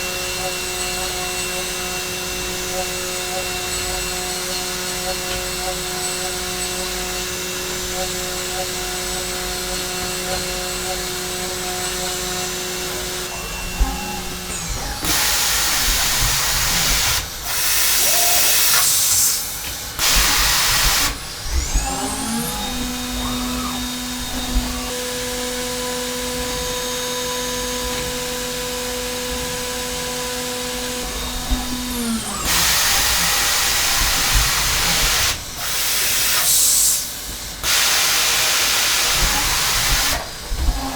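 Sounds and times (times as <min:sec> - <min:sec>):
machine spindle whining: 0:00.0 - 0:40.9.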